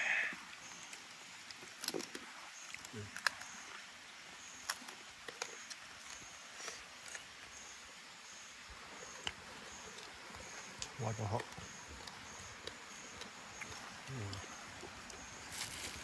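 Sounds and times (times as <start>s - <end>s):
night insects chirping: 0.0s - 16.0s.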